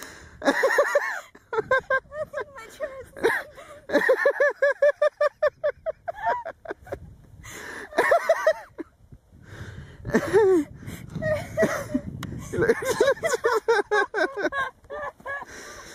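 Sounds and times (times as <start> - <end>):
person laughing hard: 0.4 - 2.5, 3.2 - 7.0, 7.8 - 8.8, 10.1 - 15.9.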